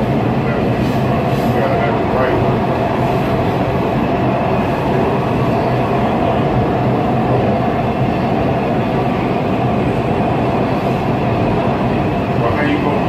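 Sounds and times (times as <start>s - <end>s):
subway car wheels rumbling on rail: 0.0s - 13.0s.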